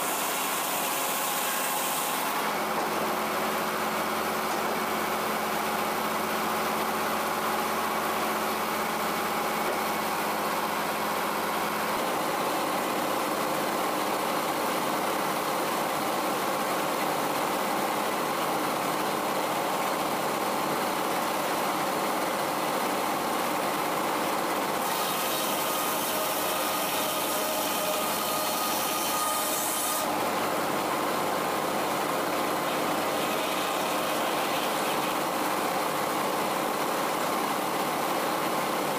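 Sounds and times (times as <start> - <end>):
circular sawmill running: 0.0 - 38.9.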